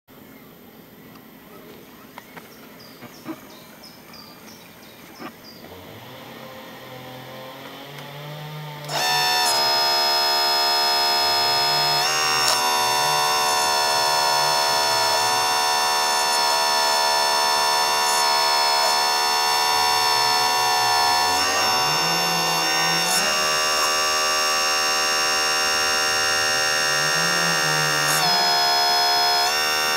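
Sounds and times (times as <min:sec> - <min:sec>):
hydraulic pump buzzing whine: 0:05.1 - 0:29.9.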